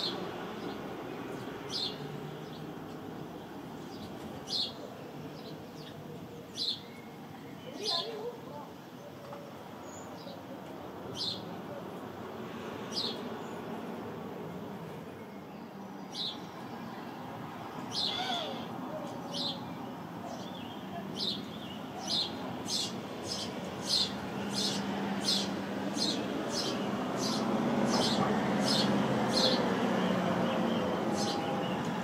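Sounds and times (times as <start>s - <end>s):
sparrows chirping: 0.0s - 32.0s.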